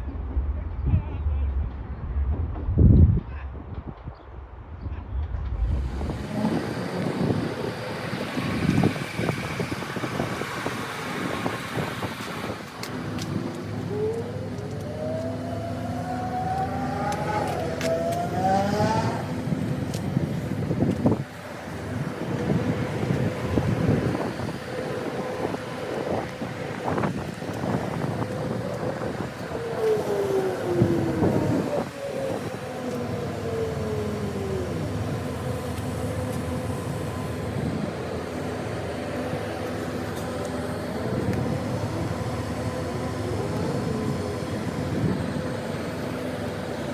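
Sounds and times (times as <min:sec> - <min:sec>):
train engine rumble: 0:00.0 - 0:46.9
train rising whine: 0:00.0 - 0:46.9.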